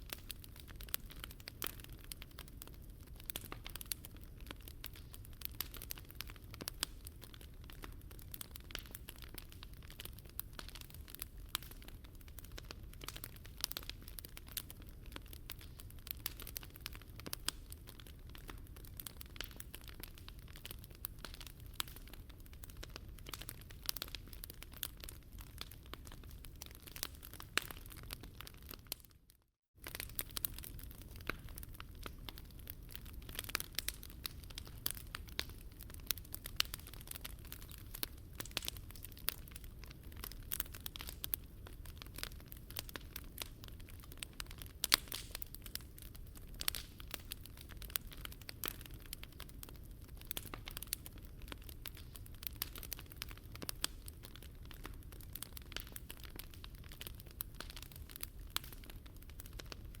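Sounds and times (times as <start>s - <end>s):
low fire rumble: 0.0s - 29.0s, 29.8s - 60.0s
wood fire crackling: 0.0s - 60.0s.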